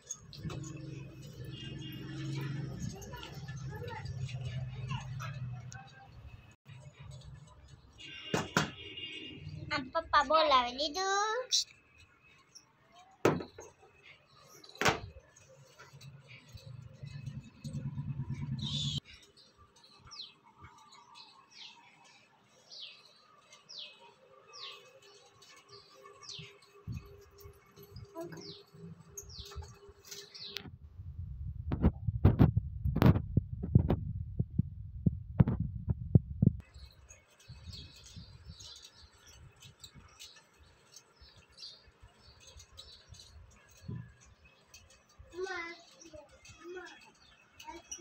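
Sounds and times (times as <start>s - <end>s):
small birds chirping: 0.0s - 30.7s, 36.6s - 48.0s.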